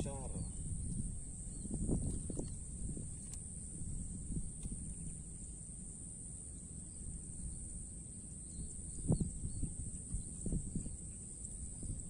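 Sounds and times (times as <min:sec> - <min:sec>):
high-pitched insect chorus: 0:00.0 - 0:12.0
low uneven rumble: 0:00.0 - 0:12.0.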